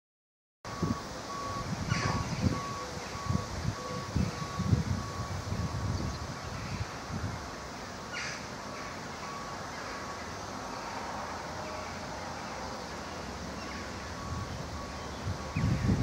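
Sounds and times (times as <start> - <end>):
distant traffic: 0.7 - 16.0.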